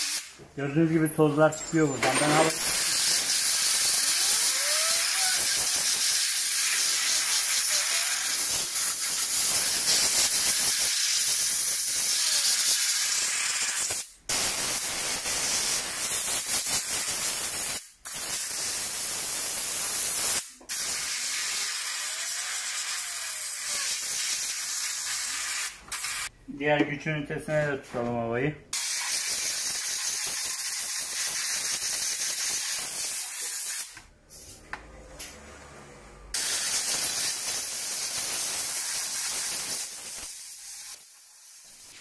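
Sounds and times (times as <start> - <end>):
compressed air hissing: 0.0 - 0.4, 2.4 - 26.3, 28.7 - 34.0, 36.3 - 42.0.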